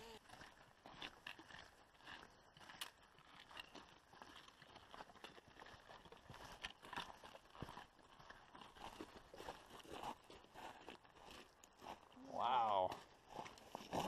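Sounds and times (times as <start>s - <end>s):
footsteps crunching on rocky trail: 0.1s - 14.0s.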